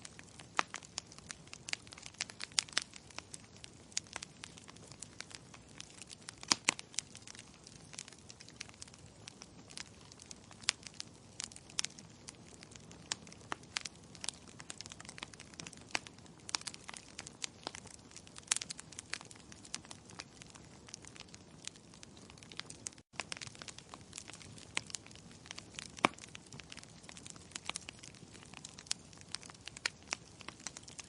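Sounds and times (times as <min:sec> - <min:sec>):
wood logs crackling and popping: 0:00.0 - 0:31.0.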